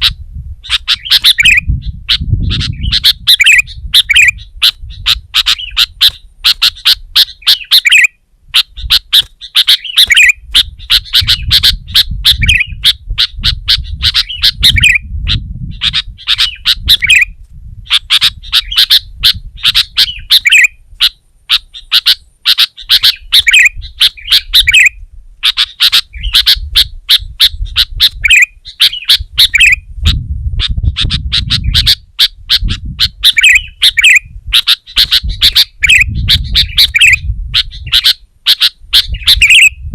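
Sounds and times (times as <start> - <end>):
bulbul calling: 0.0 - 39.9.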